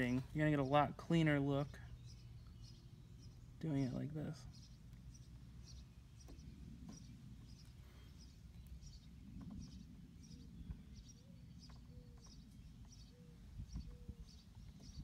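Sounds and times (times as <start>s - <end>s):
low steady rumble: 0.0s - 15.0s
small bird chirping: 0.0s - 15.0s.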